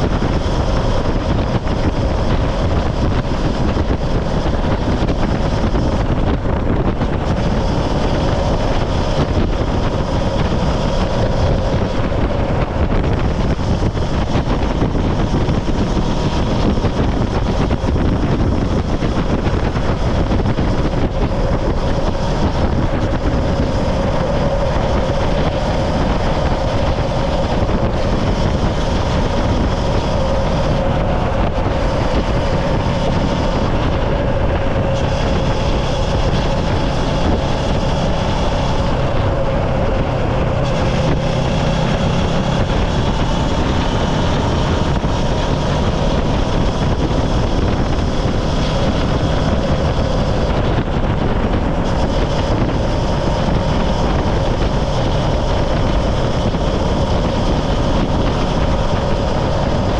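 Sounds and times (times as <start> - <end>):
loud mechanical hum: 0.0 - 59.9
rushing noise: 0.0 - 59.9.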